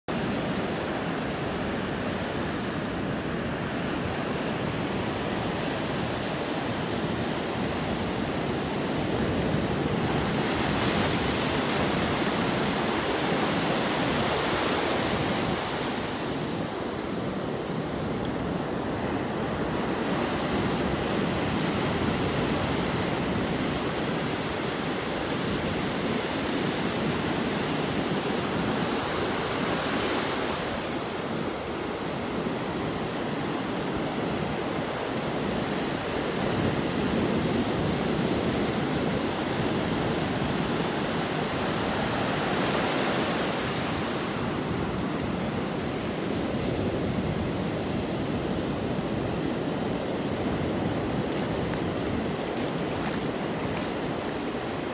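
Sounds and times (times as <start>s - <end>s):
ocean surf breaking: 0.1s - 54.9s.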